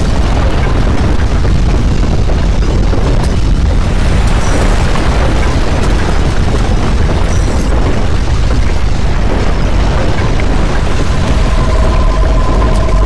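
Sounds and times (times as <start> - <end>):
deep earthquake rumble: 0.0 - 13.0
rough crackling noise: 0.0 - 13.0.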